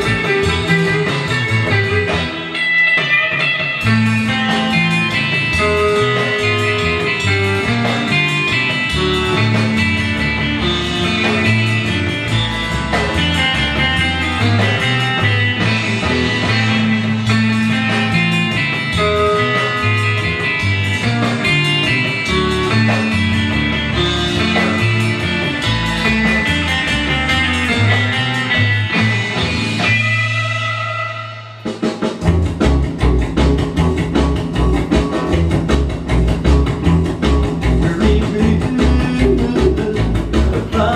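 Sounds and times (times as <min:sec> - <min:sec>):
rockabilly song with guitar: 0:00.0 - 0:40.9.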